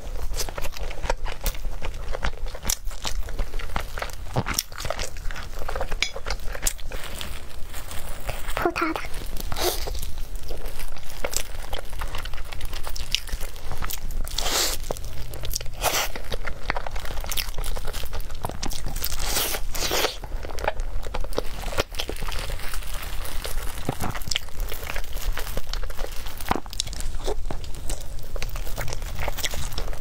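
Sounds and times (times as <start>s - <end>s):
chewing soft cake: 0.0s - 30.0s.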